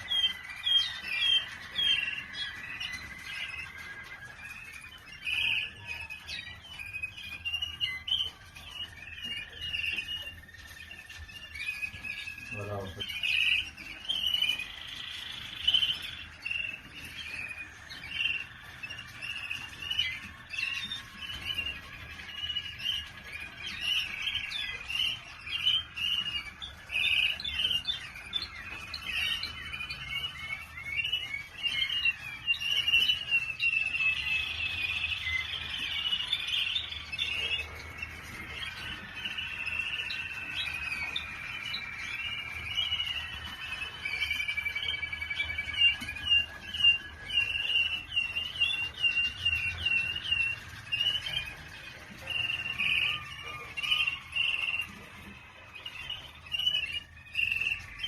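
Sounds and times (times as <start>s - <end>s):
canary trilling and chirping: 0.0s - 58.0s
canary whistled notes: 0.0s - 58.0s.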